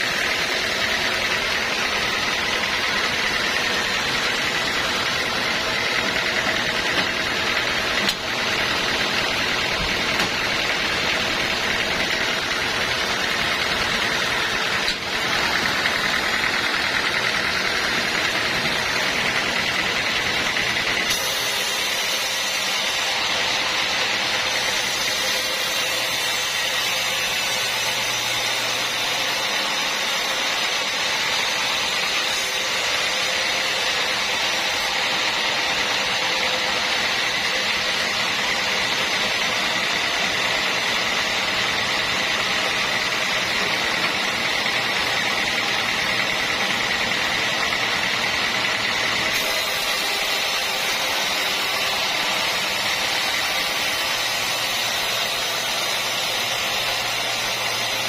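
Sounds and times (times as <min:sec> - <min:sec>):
sawmill machinery humming with whine: 0:00.0 - 0:58.0.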